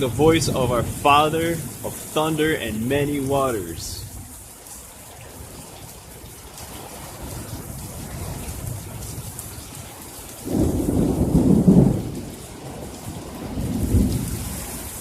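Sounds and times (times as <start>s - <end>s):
thunder rumbling: 0.0s - 4.3s, 7.1s - 15.0s
steady rain: 0.0s - 15.0s.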